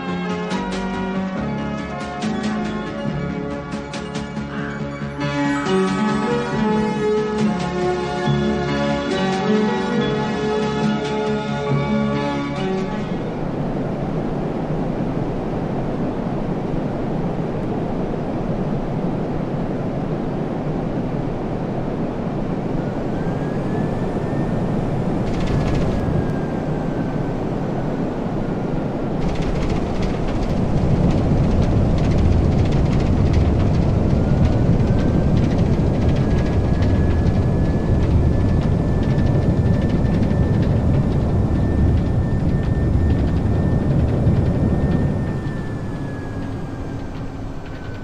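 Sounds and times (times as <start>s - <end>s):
jet engines rushing: 0.0s - 48.0s.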